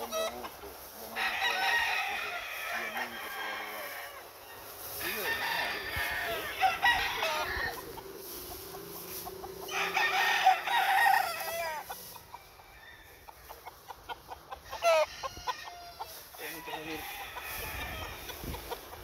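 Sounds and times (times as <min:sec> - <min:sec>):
rooster clucking: 0:00.0 - 0:19.0
roosters crowing: 0:00.0 - 0:19.0.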